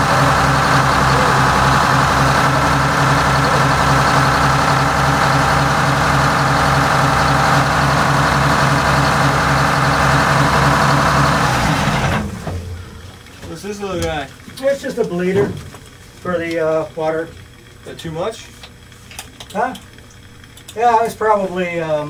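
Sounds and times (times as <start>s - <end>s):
diesel engine idling: 0.0s - 19.1s.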